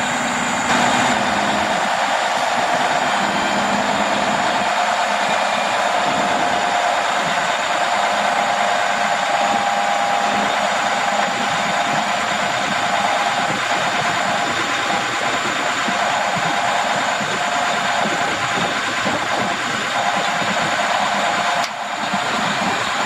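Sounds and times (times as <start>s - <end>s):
diesel truck engine running: 0.0s - 23.0s
faint steady whine: 0.0s - 23.0s.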